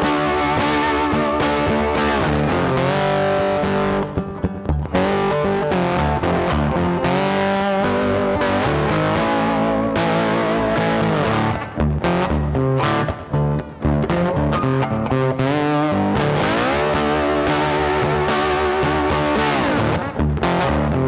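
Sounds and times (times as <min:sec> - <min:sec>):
distorted electric guitar music: 0:00.0 - 0:21.0.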